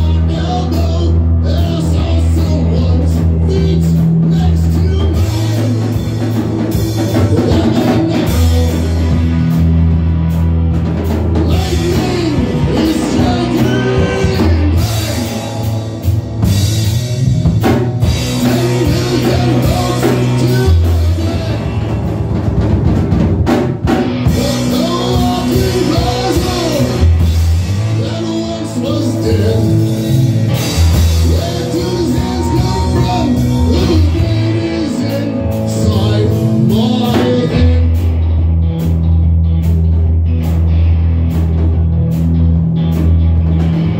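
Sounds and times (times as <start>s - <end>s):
electric bass notes: 0.0s - 43.9s
rock band jamming: 0.0s - 43.9s.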